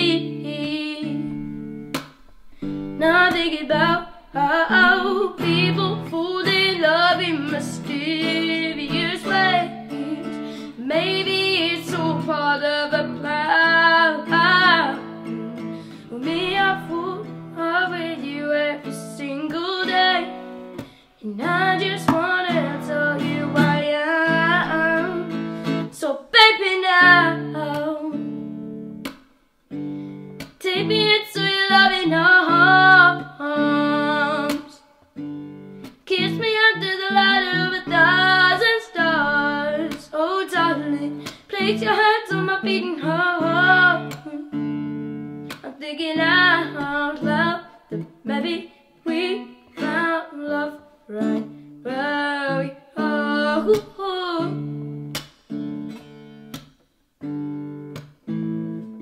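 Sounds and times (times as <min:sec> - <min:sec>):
child singing a ballad: 0:00.0 - 0:28.5, 0:30.4 - 0:35.0, 0:36.0 - 0:55.1
acoustic guitar chords: 0:00.0 - 0:59.0.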